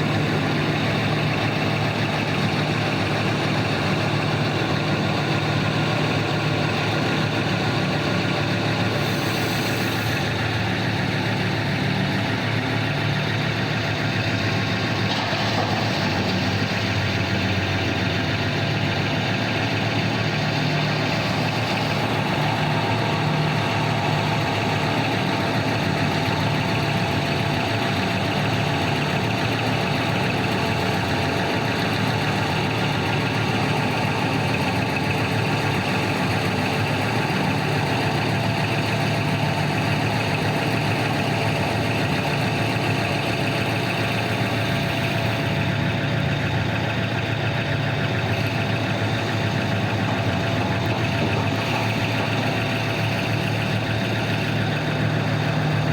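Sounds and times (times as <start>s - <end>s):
large diesel engines running: 0.0s - 55.9s.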